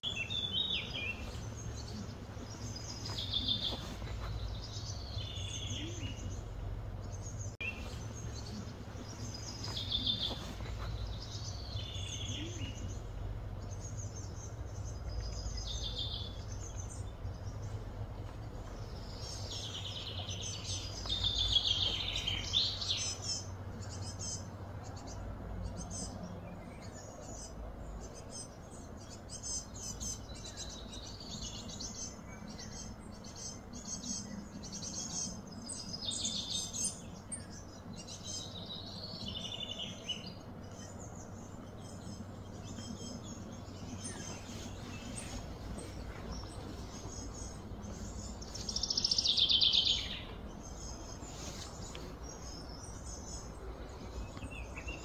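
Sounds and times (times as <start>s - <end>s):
birds chirping: 0.0s - 55.0s
low steady hum: 0.0s - 55.0s.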